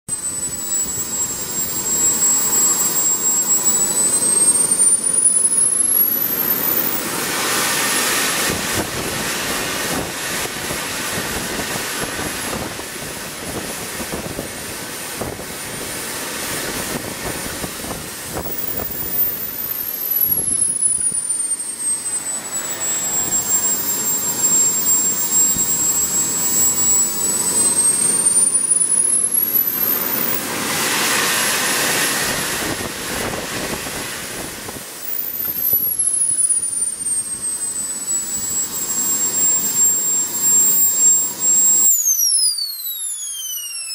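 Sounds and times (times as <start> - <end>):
model jet turbine roaring: 0.1 - 43.9.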